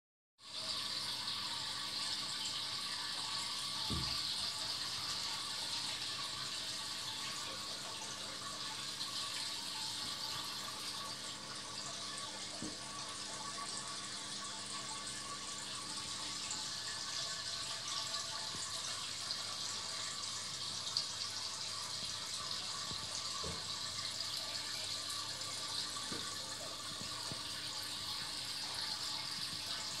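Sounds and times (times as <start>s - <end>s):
aquarium water bubbling: 0.6s - 30.0s.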